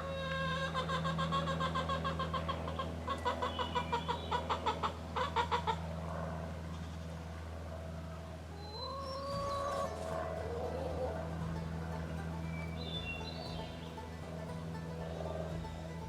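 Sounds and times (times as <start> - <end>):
hen clucking: 0.0 - 5.9, 8.9 - 16.0
low hum: 0.0 - 16.0.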